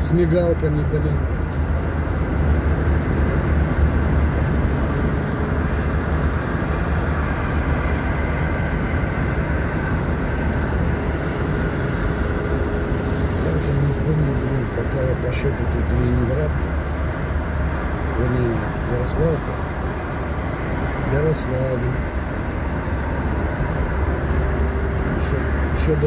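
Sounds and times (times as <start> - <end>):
car cabin road and engine noise: 0.0 - 26.0.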